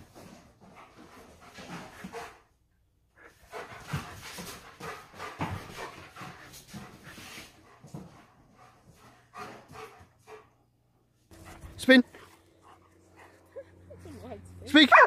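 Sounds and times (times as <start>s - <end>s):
dog panting: 0.1s - 15.0s.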